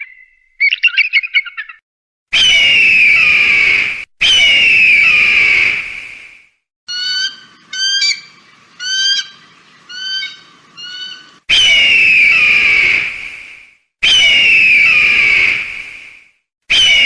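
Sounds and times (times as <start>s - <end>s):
bird of prey calls: 0.0s - 5.8s, 6.9s - 13.1s, 14.0s - 15.6s, 16.7s - 17.0s
bird of prey screaming: 0.0s - 5.9s, 6.9s - 13.4s, 14.0s - 15.8s, 16.7s - 17.0s.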